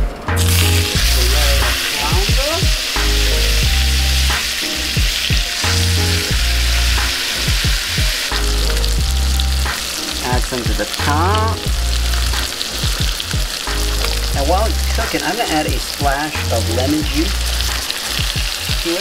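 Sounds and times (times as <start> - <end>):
background music with bass: 0.0 - 19.0
fish sizzling in a pan: 0.4 - 19.0.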